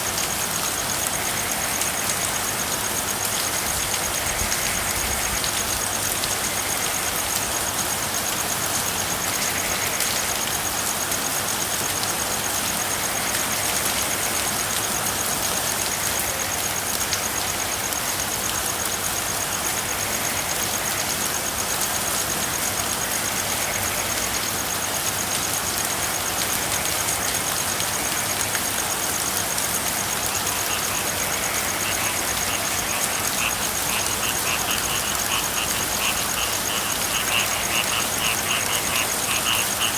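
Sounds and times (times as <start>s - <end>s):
frogs croaking: 0.0s - 39.9s
rain falling: 0.0s - 39.9s.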